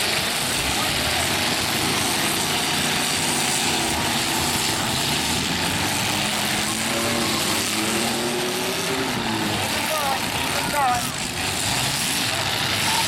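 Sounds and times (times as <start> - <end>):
pickup truck engines roaring: 0.0 - 13.0.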